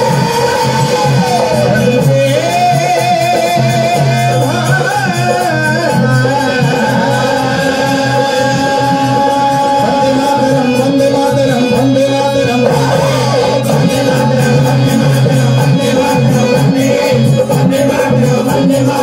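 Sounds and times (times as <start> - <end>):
chorus singing: 0.0 - 19.0
dholak drumming: 0.0 - 19.0
harmonium: 0.0 - 19.0
man singing lead: 0.0 - 19.0.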